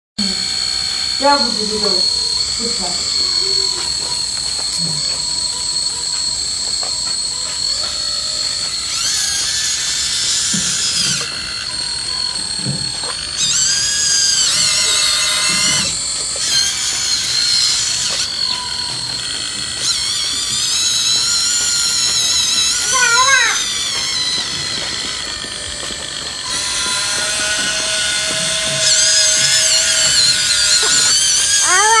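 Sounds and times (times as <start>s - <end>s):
bulldozer machinery running: 0.2s - 32.0s
crawler tracks squealing: 0.2s - 32.0s.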